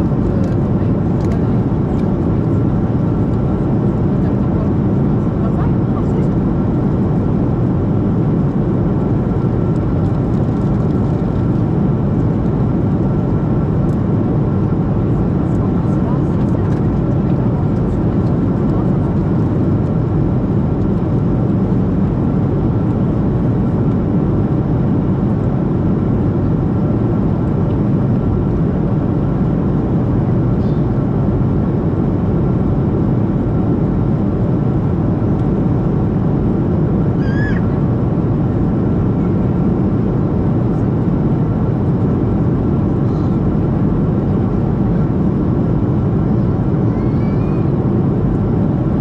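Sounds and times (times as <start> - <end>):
airliner cabin rumble: 0.0 - 49.0.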